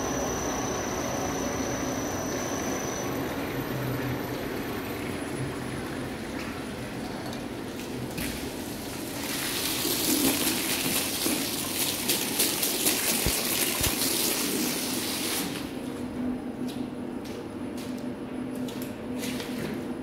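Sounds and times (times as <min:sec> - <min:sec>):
steady machine hum: 0:00.0 - 0:11.8, 0:14.3 - 0:20.0.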